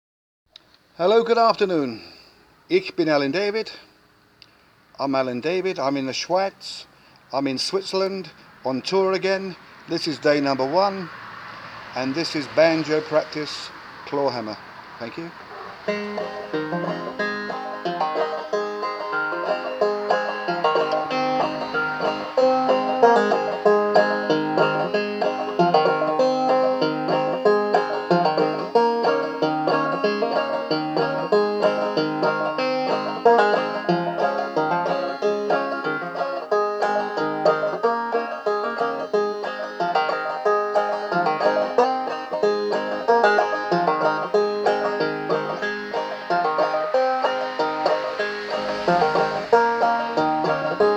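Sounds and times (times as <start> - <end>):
banjo folk tune: 0.5 - 50.9.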